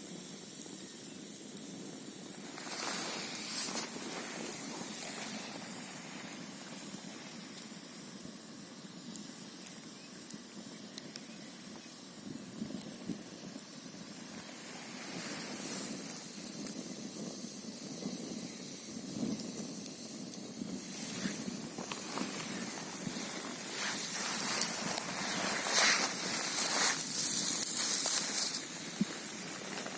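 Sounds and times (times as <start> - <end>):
campfire crackling and popping: 0.0 - 29.9
wind hissing: 0.0 - 29.9.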